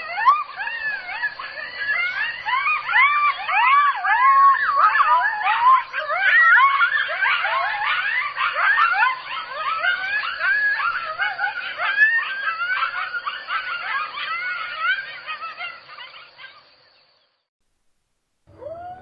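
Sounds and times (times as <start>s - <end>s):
coyotes howling and yipping: 0.0s - 17.4s, 18.5s - 19.0s.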